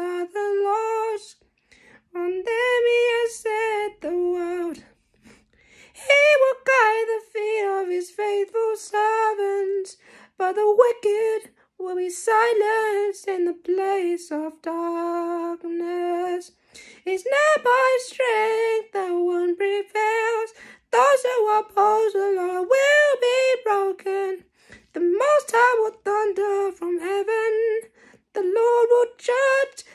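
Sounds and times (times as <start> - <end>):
woman singing unaccompanied: 0.0 - 5.0, 5.8 - 29.9.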